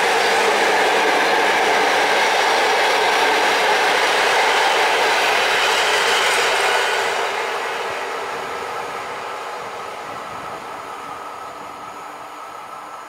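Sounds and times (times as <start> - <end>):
train coaches rolling on rails: 0.0 - 13.0.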